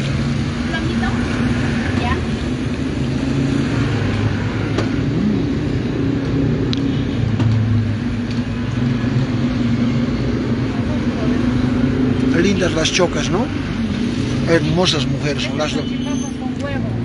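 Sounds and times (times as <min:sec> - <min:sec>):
traffic engines humming: 0:00.0 - 0:17.0.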